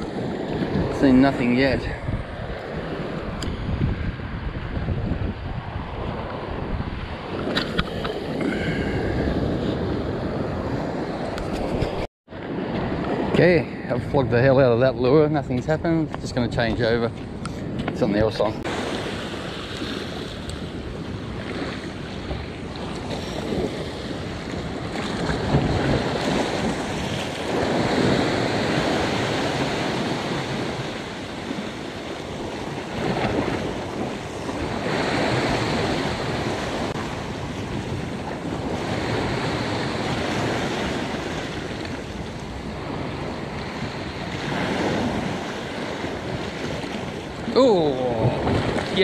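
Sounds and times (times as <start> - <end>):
surf against rocks: 0.0 - 49.0
wind buffeting microphone: 0.0 - 49.0.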